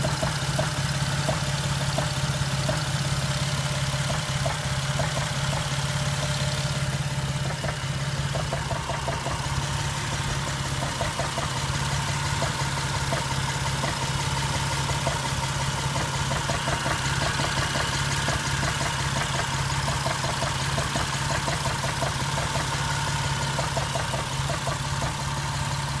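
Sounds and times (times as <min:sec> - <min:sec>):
engine idling roughly: 0:00.0 - 0:26.0
engine knocking: 0:00.0 - 0:26.0.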